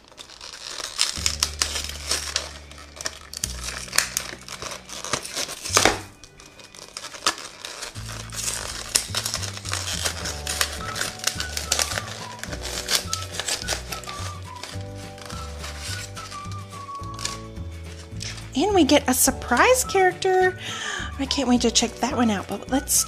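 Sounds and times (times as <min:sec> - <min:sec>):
plastic packaging crinkling: 0:00.0 - 0:23.0
background music with bass: 0:01.2 - 0:06.2, 0:08.0 - 0:23.0.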